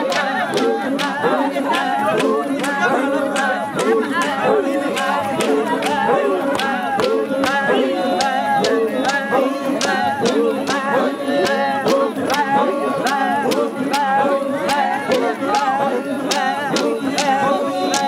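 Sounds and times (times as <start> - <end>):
group singing unaccompanied: 0.0 - 18.0
sharp rhythmic beats: 0.0 - 18.0.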